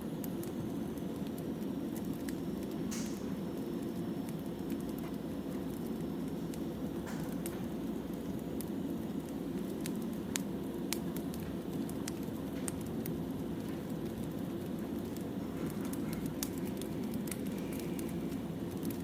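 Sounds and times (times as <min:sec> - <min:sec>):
firewood burning with crackles: 0:00.0 - 0:19.0.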